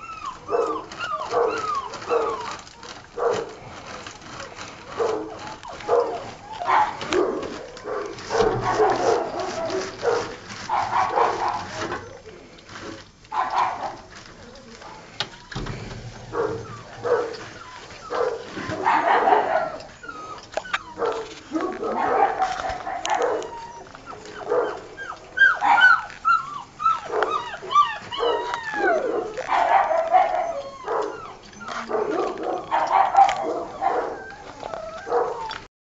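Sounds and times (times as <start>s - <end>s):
puppies yelping and barking: 0.0s - 12.4s, 15.4s - 35.7s.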